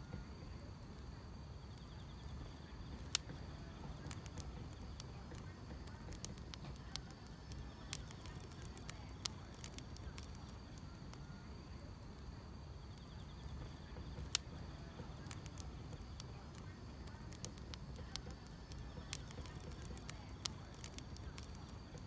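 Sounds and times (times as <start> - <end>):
insects chirring: 0.0 - 22.0
low rumble of burning logs: 0.0 - 22.0
wood fire crackling and popping: 0.0 - 22.0.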